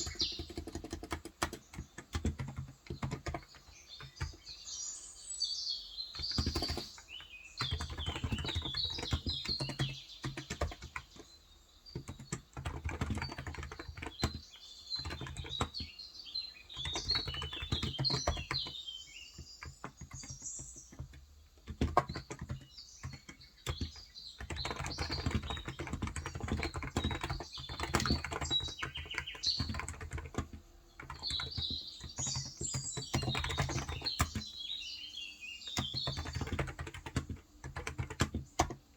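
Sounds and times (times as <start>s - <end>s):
typing on keyboard: 0.0s - 4.6s, 6.1s - 16.0s, 16.6s - 34.6s, 35.7s - 38.9s
small birds chirping: 0.0s - 38.9s.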